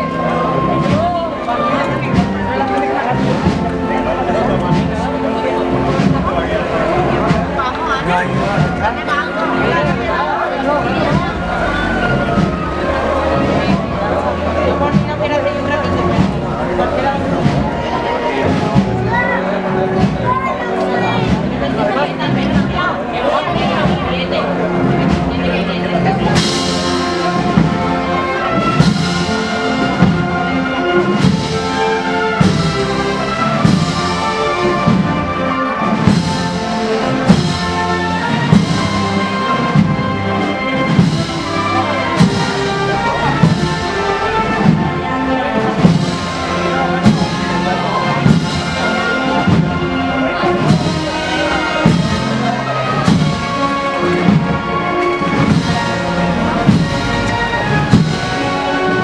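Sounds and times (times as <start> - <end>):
steady drum beat: 0.0 - 59.0
wind band playing slow march: 0.0 - 59.0.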